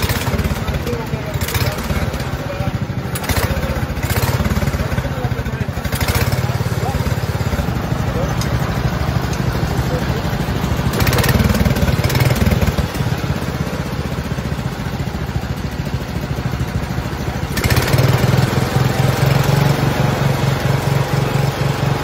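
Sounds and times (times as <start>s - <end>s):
single-cylinder engine running: 0.0s - 22.0s.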